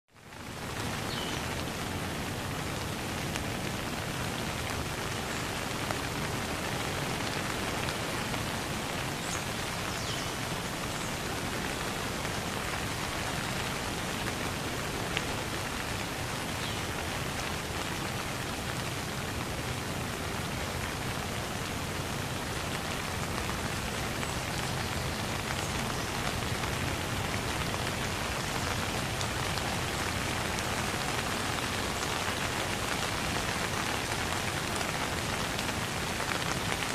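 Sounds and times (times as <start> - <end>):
soft steady rain: 0.1 - 36.9.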